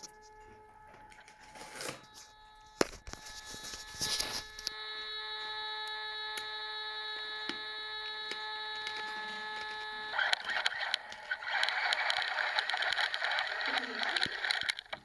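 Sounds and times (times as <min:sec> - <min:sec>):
electronic whine: 0:00.0 - 0:15.0
toy truck motor and tyres: 0:00.0 - 0:15.0.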